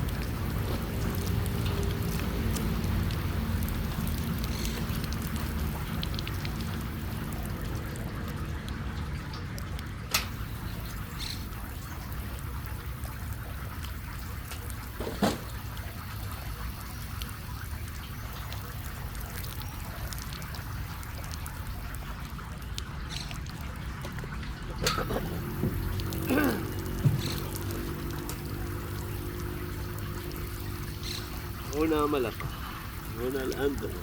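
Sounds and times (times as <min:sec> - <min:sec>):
sea water splashing: 0:00.0 - 0:34.0.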